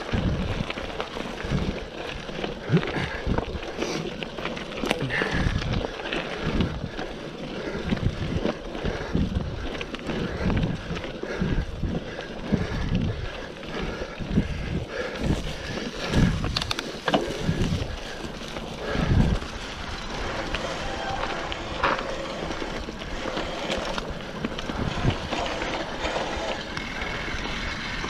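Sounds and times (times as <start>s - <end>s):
wind on microphone: 0.0s - 3.6s, 5.0s - 7.0s, 7.8s - 28.0s
bike tyres on rough trail: 0.0s - 28.0s.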